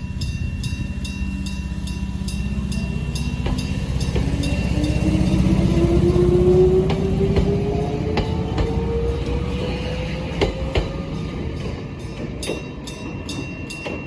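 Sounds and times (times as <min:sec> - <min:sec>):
electric train motor whine: 0:00.0 - 0:11.5
heavy train rumble: 0:00.0 - 0:14.0
wheels clicking over rail joints: 0:02.6 - 0:14.0.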